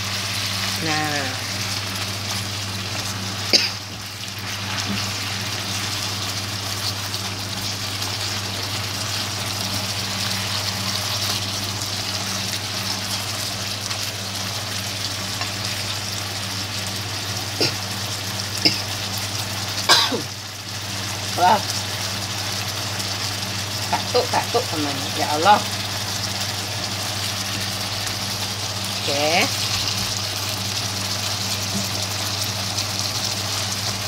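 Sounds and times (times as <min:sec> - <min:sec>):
meat sizzling in a frying pan: 0:00.0 - 0:34.0.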